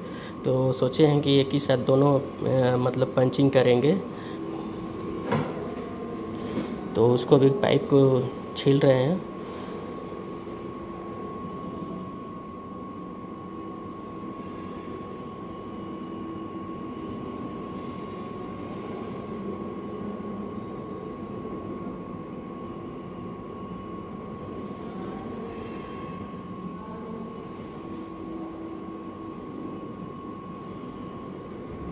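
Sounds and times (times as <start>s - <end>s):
thin machine whine: 0.0s - 31.9s.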